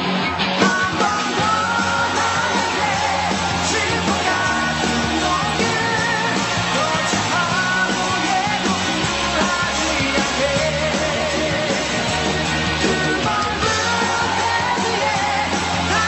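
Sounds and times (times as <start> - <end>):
loud music with singing: 0.0 - 16.0
steady bass line: 0.0 - 16.0.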